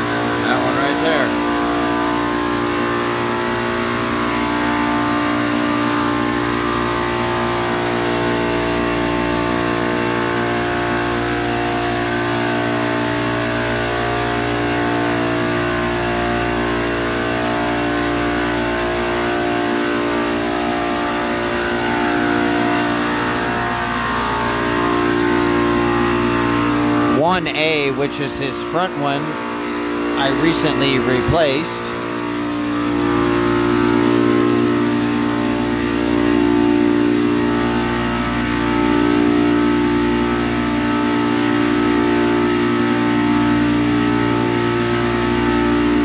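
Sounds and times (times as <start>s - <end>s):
chiller compressors humming: 0.0s - 46.0s.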